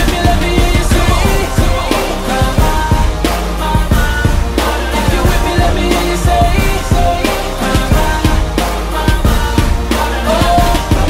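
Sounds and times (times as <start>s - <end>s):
hip-hop beat: 0.0s - 11.0s.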